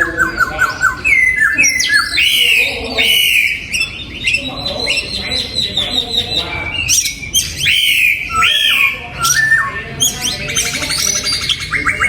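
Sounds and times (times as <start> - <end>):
bird singing whistled phrases: 0.0 - 12.0.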